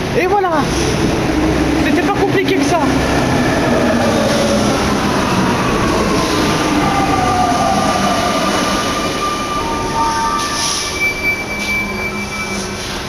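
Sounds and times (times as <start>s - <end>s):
train running with whining tones: 0.0s - 13.0s.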